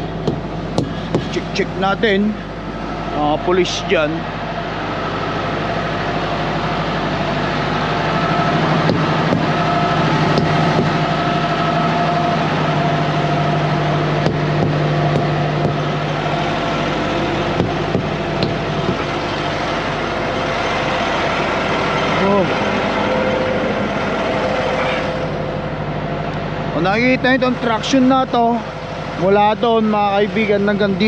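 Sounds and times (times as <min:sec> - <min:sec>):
diesel engines idling: 0:00.0 - 0:31.0
low drone: 0:00.0 - 0:31.0.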